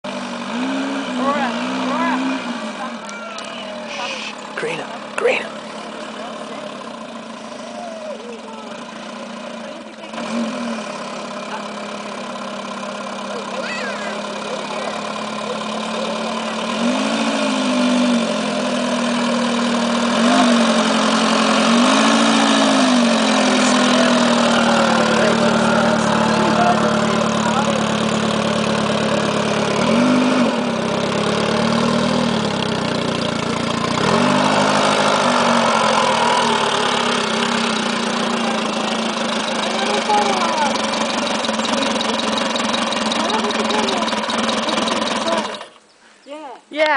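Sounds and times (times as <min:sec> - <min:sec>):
motorcycle engine revving: 0:00.0 - 0:45.8.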